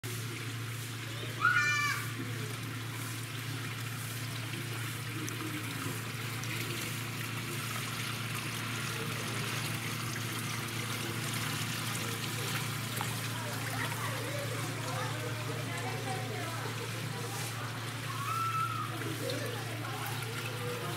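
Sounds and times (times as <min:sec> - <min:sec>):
water trickling: 0:00.1 - 0:20.9.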